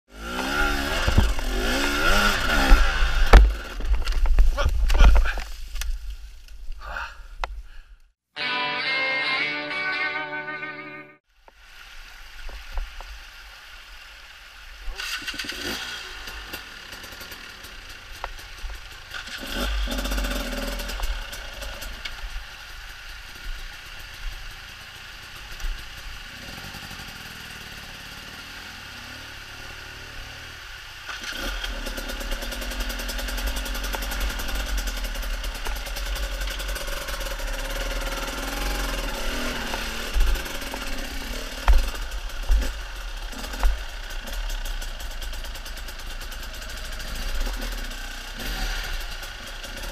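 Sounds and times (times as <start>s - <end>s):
motorcycle engines revving: 0.1s - 5.4s, 15.0s - 49.9s.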